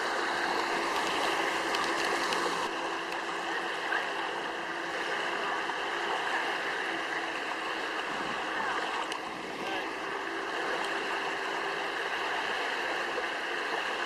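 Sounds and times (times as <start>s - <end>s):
faint steady hum: 0.0s - 14.0s
rushing water: 0.0s - 14.0s.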